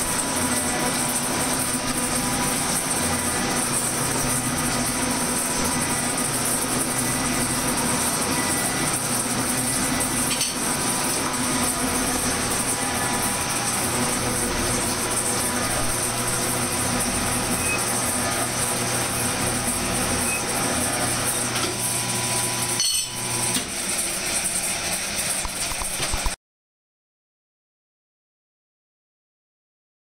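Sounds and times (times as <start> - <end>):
metal shaper machining hum: 0.0 - 26.3.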